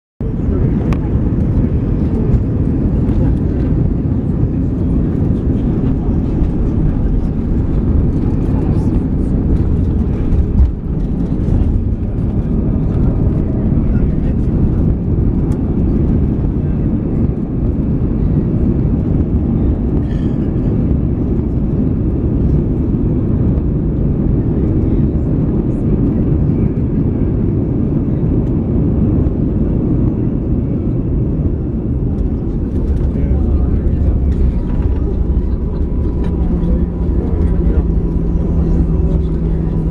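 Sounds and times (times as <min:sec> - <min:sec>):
aircraft rolling on runway: 0:00.2 - 0:39.9
airliner engines rumbling in cabin: 0:00.2 - 0:39.9.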